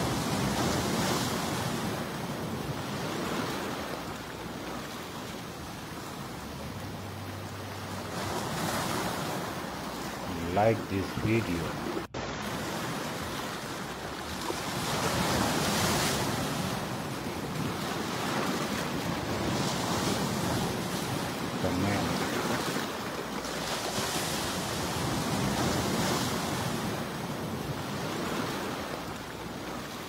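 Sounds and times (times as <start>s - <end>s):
ocean surf breaking on beach: 0.0s - 30.0s.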